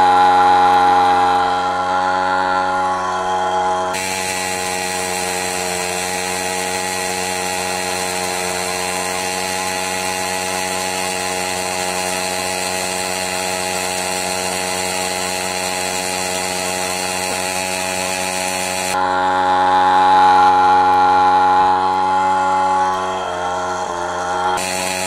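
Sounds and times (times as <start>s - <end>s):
two-stroke engine at high revs: 0.0s - 25.0s.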